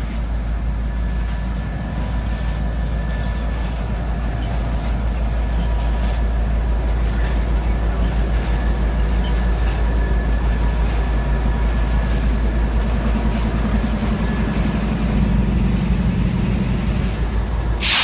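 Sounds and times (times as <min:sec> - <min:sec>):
diesel locomotives passing: 0:00.0 - 0:18.0.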